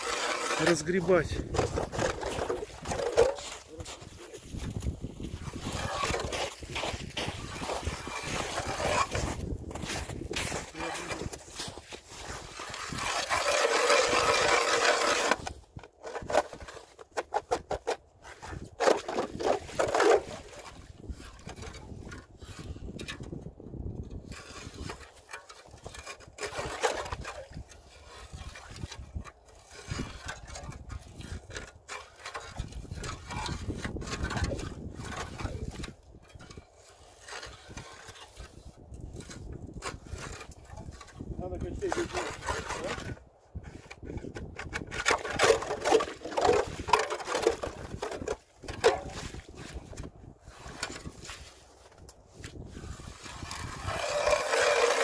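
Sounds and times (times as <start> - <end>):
ice crunching: 0.0 - 23.2, 24.2 - 43.8, 44.9 - 55.0
ice auger grinding through ice: 0.0 - 23.4, 24.1 - 55.0.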